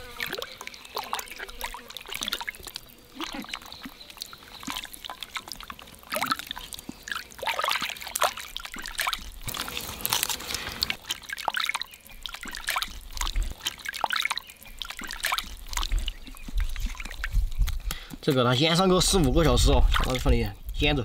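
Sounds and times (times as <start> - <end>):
wet sloshing and squelching of marinade: 0.0 - 17.9.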